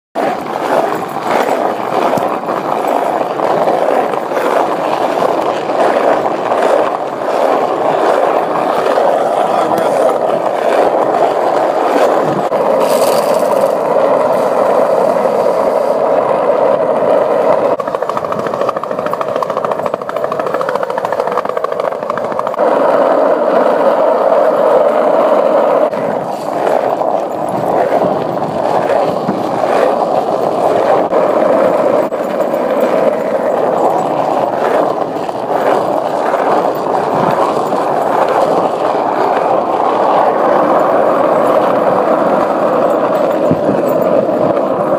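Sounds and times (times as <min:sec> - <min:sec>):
skateboard clacks: 0:00.2 - 0:44.9
skateboard wheels rolling on asphalt: 0:00.2 - 0:44.9.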